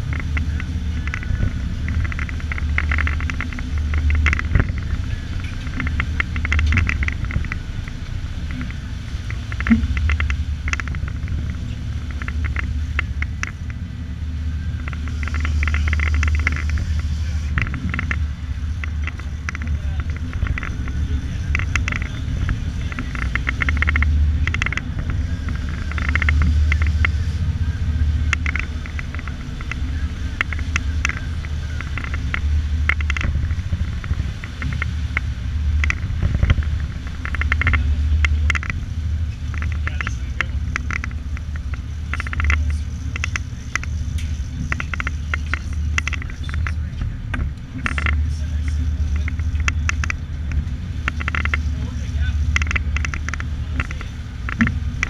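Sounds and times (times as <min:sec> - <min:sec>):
crackle and clatter bursts: 0:00.0 - 0:55.0
engine low drone: 0:00.0 - 0:55.0.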